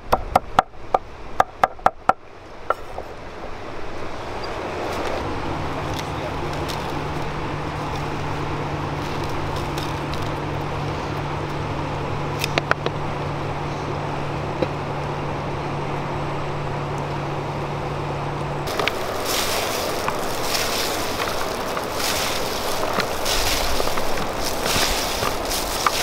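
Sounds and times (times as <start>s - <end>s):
outdoor background noise: 0.0s - 26.0s
steady low hum: 5.1s - 26.0s.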